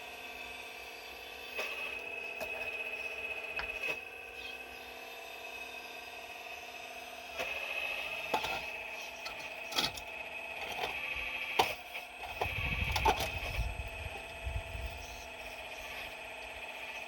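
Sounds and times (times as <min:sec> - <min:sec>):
excavator mechanical whine: 0:00.0 - 0:17.0.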